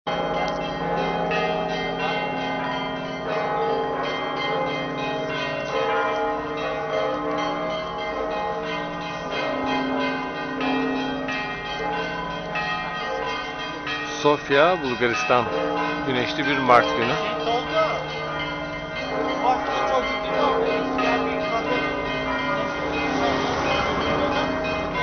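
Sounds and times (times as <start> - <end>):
church bells pealing: 0.1 - 25.0.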